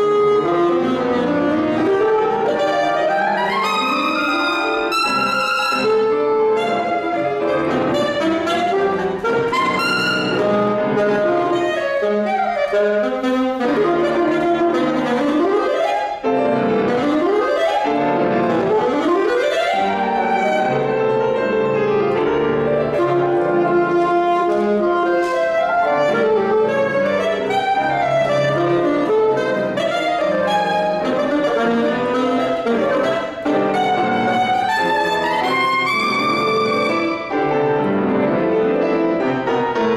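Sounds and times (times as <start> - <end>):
grand piano: 0.0 - 39.9
saxophone: 0.0 - 39.9.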